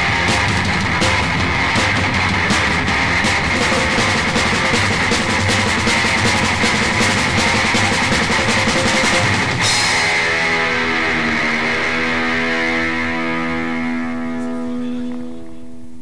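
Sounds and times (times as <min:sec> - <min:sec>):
rock band playing: 0:00.0 - 0:15.8
distorted guitar chord ringing: 0:00.0 - 0:16.0.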